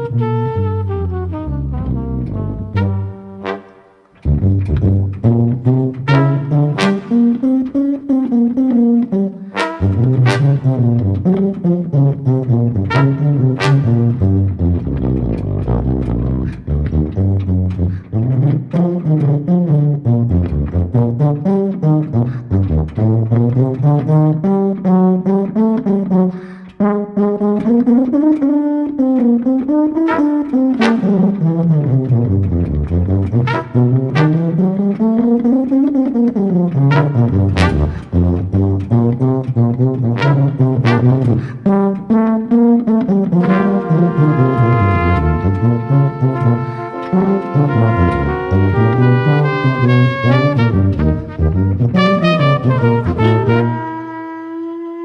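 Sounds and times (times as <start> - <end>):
jazz brass quartet playing: 0.0 - 55.0.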